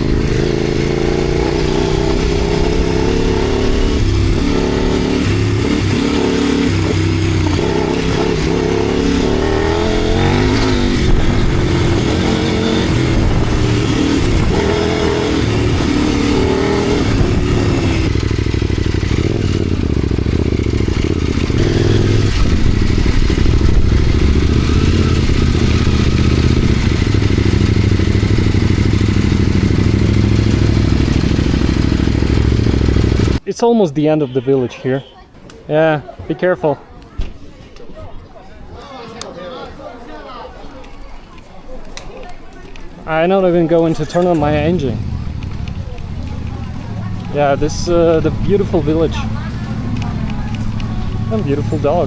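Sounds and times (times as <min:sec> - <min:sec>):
motorcycle engine revving through gears: 0:00.0 - 0:33.4, 0:43.1 - 0:52.0.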